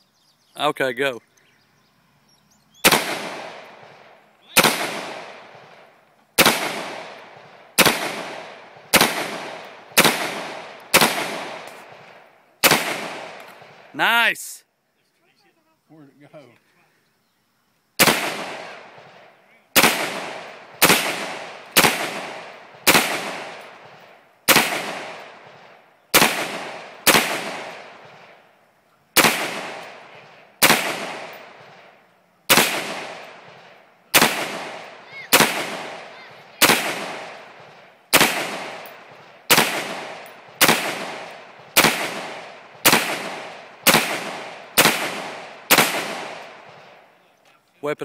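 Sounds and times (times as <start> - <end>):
rifle shots echoing: 2.8 - 14.3, 18.0 - 28.4, 29.2 - 47.1.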